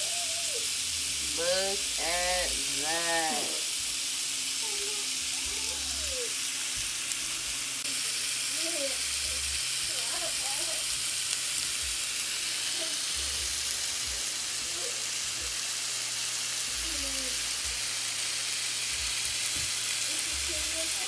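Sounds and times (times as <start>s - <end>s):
steak sizzling in a pan: 0.0s - 21.0s.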